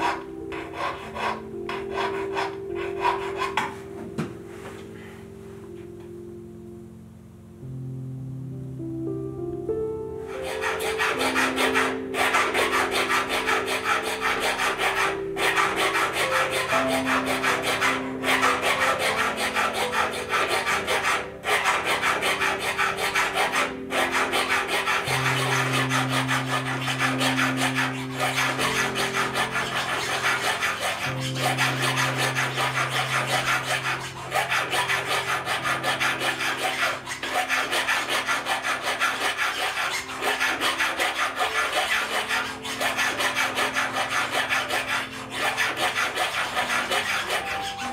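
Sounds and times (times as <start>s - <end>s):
hand file rasping on metal ring: 0.0s - 3.7s, 10.3s - 47.9s.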